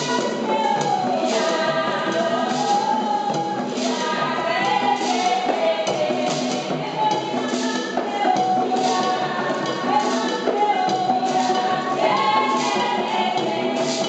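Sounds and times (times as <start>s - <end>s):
hand shakers rattling: 0.0s - 14.0s
women singing together: 0.0s - 14.0s.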